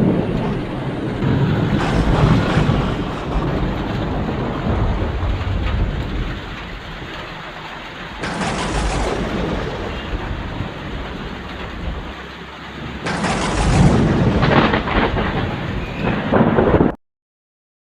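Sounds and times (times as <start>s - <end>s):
rain hissing: 0.0s - 16.8s
thunder clap rumbling: 0.0s - 17.0s.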